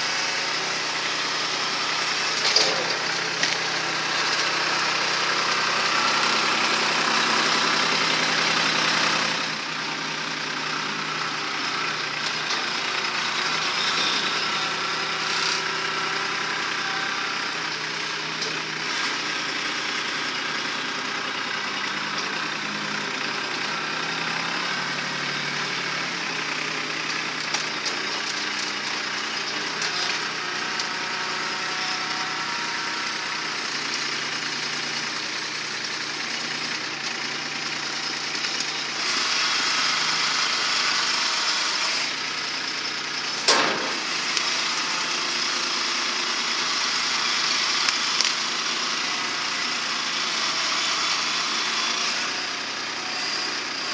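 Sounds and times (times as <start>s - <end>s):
loader digging dirt: 0.0s - 53.9s
tractor diesel engine running: 0.0s - 53.9s.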